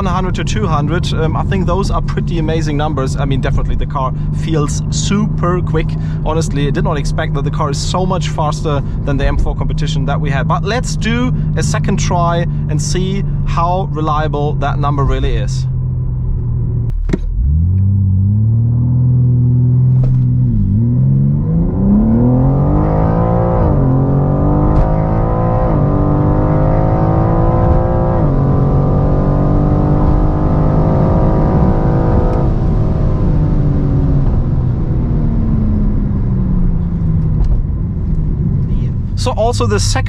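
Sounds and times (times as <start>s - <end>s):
car engine accelerating through gears: 0.0s - 40.0s.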